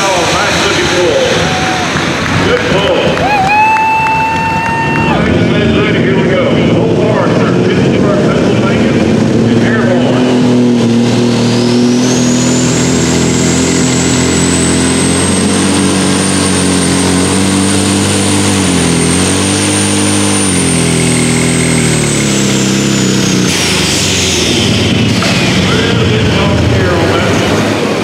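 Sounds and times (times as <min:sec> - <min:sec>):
diesel engine at full power: 0:00.0 - 0:28.0
high turbo whine: 0:00.0 - 0:28.0.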